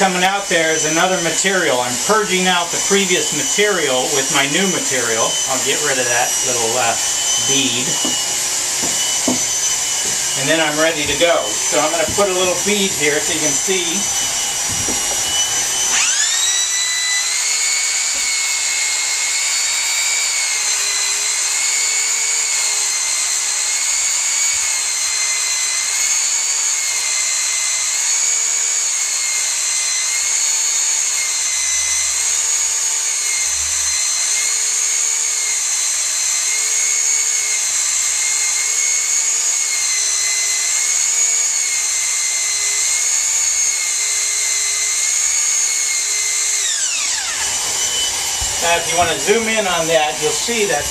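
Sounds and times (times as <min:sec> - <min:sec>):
plastic extruder motor whining: 0:00.0 - 0:50.9.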